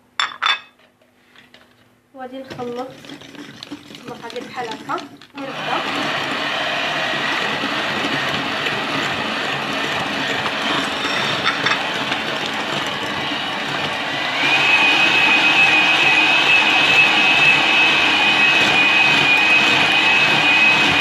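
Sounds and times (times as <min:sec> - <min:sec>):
electric mixer whining: 0:02.5 - 0:21.0.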